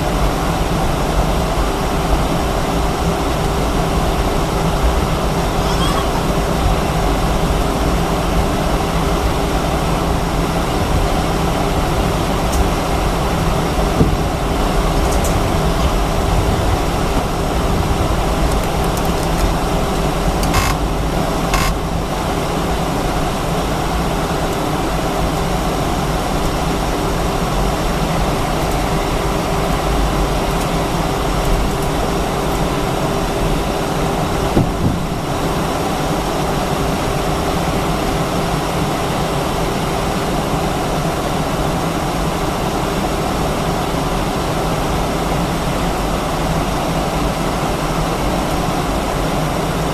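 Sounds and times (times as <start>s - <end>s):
jet engines idling in cabin: 0.0s - 49.9s.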